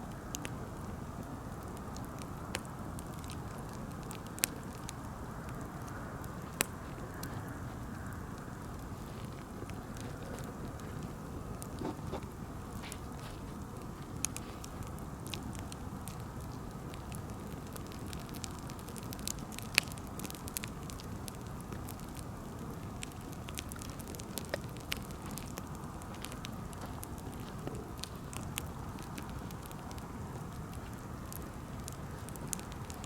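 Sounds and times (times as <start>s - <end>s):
low rumble of flames: 0.0s - 33.0s
wood fire crackling and popping: 0.0s - 33.0s.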